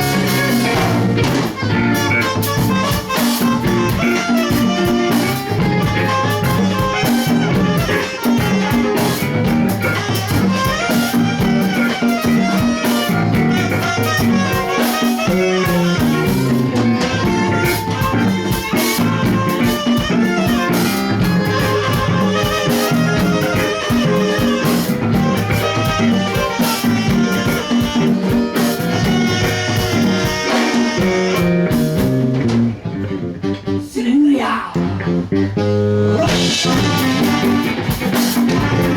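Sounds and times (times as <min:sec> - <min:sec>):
drum kit beat: 0:00.0 - 0:33.8, 0:34.7 - 0:38.9
live band playing: 0:00.0 - 0:38.9.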